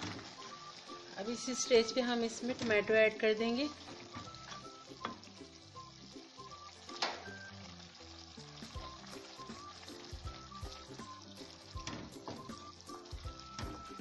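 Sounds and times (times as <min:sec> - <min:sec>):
meat sizzling in a pan: 0:00.0 - 0:14.0
soft background music: 0:00.0 - 0:14.0.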